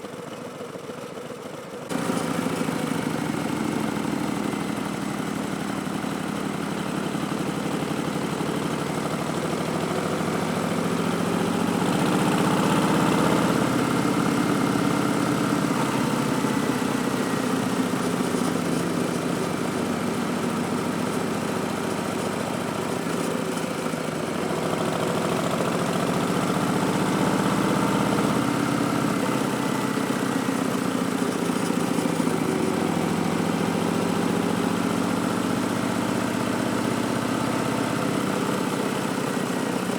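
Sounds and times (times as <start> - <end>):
motorcycle engine revving: 1.9 - 39.9.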